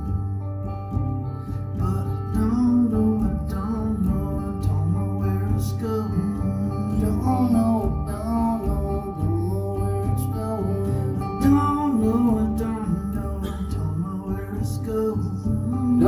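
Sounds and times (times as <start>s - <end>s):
live band playing country-rock: 0.0s - 16.0s
sliding melody line: 0.0s - 16.0s
strummed guitar: 0.0s - 16.0s.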